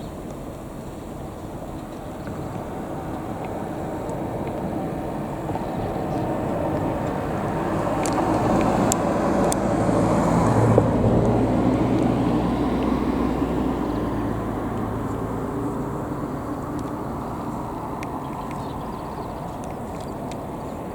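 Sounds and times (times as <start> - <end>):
vehicle passing by: 2.5 - 20.9.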